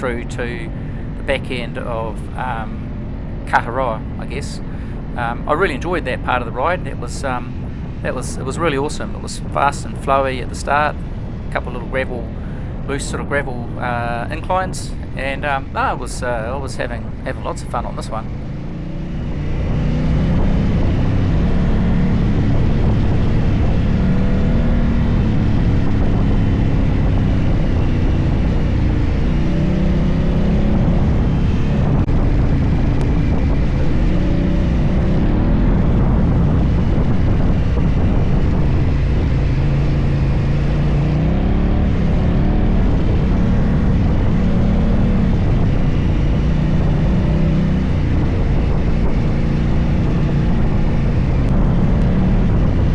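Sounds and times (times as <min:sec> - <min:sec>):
motorcycle engine revving: 0:00.0 - 0:52.9
road noise: 0:00.0 - 0:52.9.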